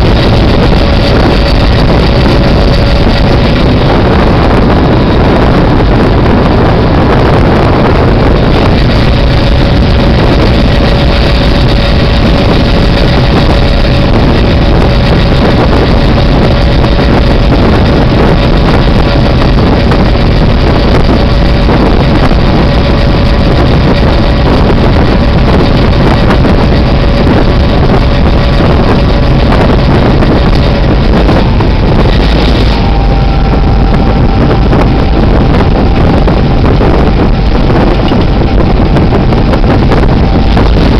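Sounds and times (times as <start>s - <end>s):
diesel locomotive engine and rolling: 0.0s - 40.9s
steady whine: 0.0s - 40.9s
wind buffeting microphone: 0.0s - 40.9s.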